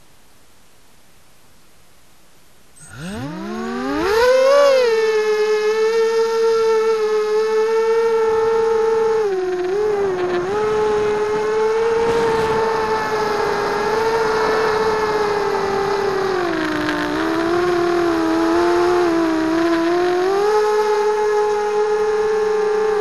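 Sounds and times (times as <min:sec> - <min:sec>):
quadcopter motors whining: 0:02.8 - 0:23.0.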